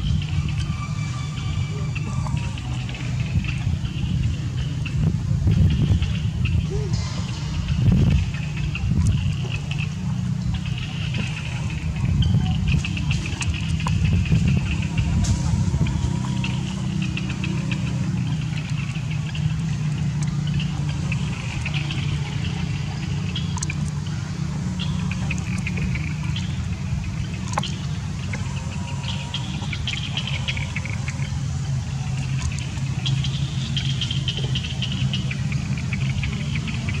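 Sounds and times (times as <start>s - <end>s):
high chirping: 0.0s - 37.0s
low motor hum: 0.0s - 37.0s.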